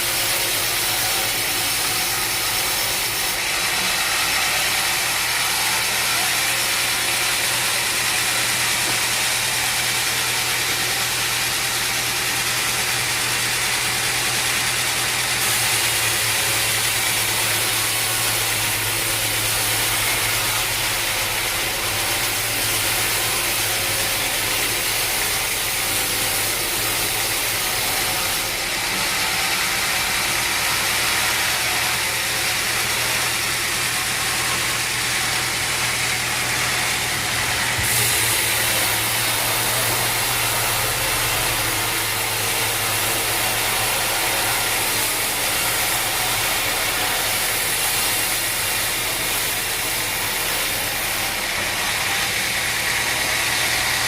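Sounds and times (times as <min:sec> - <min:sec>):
sawmill machinery hiss: 0:00.0 - 0:54.0
sawmill machinery hum: 0:00.0 - 0:54.0.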